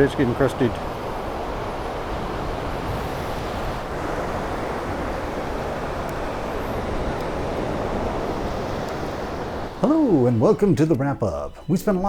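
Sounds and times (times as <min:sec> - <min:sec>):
wind on microphone: 0:00.0 - 0:10.6
ocean surf breaking: 0:00.0 - 0:12.0.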